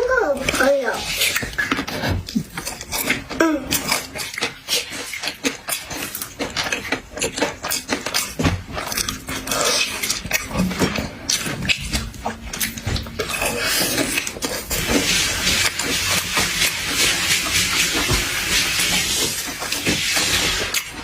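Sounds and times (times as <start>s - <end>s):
wet chewing and mouth smacks: 0.4s - 21.0s.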